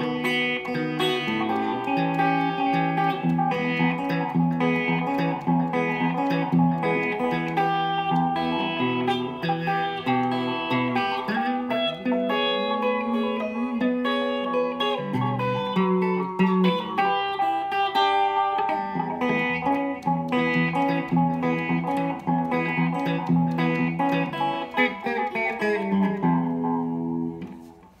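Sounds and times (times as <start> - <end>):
fingerpicked electric guitar: 0.0 - 28.0.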